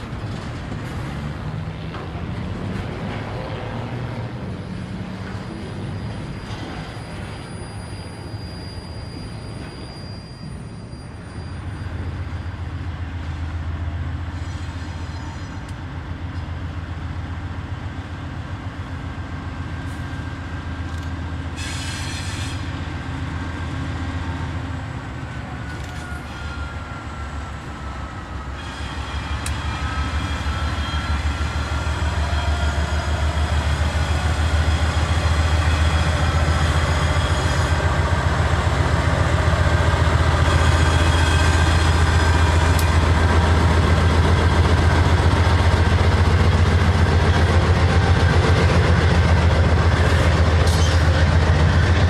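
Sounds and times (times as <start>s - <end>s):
diesel locomotive drone: 0.0s - 52.0s.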